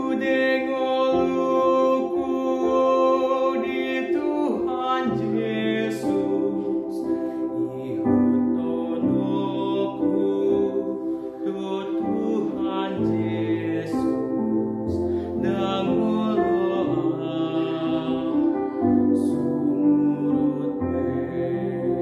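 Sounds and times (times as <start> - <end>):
instrumental backing music: 0.0 - 22.0
young man singing: 0.0 - 22.0.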